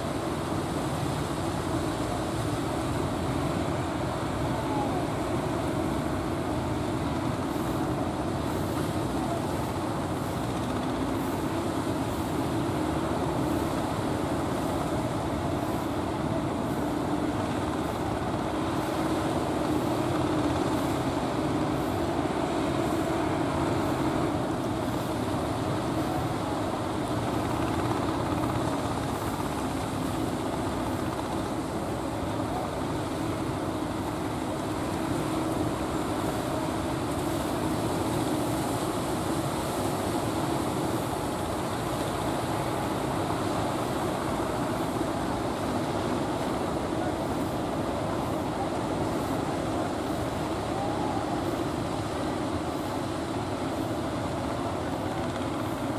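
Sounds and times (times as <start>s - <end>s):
boat engines droning: 0.0s - 55.9s.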